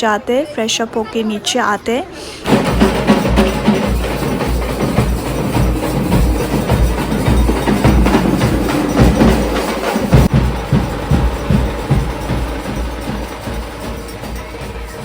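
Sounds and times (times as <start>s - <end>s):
music with rapid drumming: 2.5s - 15.0s.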